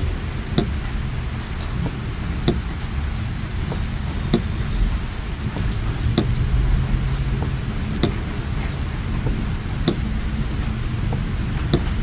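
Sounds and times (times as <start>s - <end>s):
engine and tyres on wet road: 0.0s - 12.0s
rain hissing on car body: 0.0s - 12.0s
windscreen wipers knocking: 0.0s - 12.0s.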